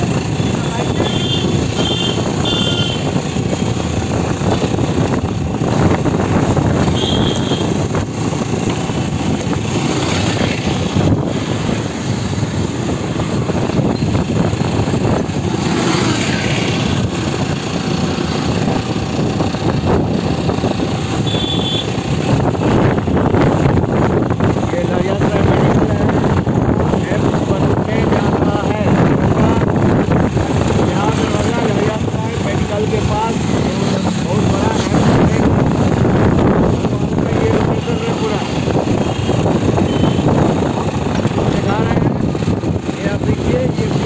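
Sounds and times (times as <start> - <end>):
vehicle engine drone: 0.0 - 44.0
wind and road noise: 0.0 - 44.0.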